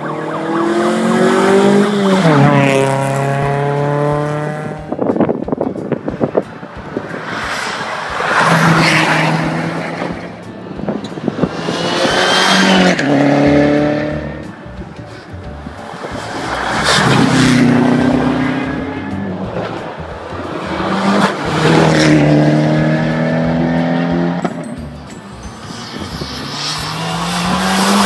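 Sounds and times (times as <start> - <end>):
rally cars accelerating past: 0.0 - 4.9, 7.1 - 14.6, 15.9 - 24.7, 25.5 - 28.0.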